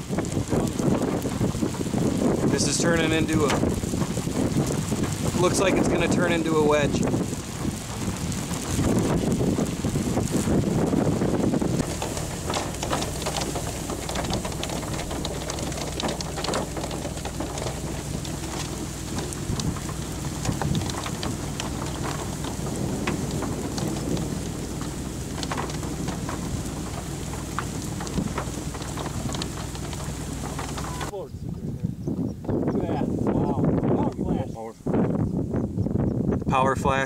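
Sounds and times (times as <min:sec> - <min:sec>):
raindrops tapping: 0:00.0 - 0:31.2
wind gust: 0:00.0 - 0:37.0.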